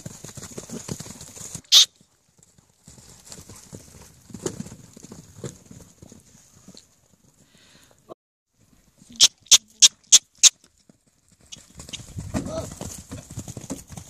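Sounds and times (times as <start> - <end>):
hoofbeats on grass: 0.0 - 7.6, 8.6 - 14.0.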